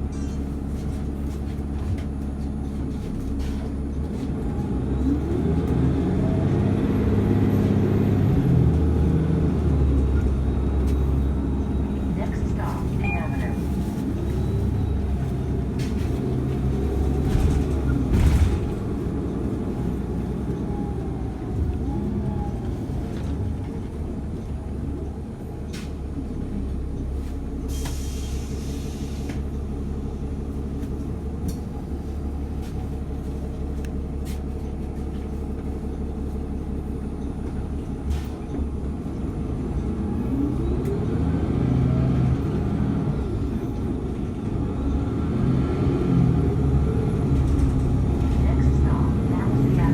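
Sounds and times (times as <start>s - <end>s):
bus rumbling: 0.0s - 49.9s.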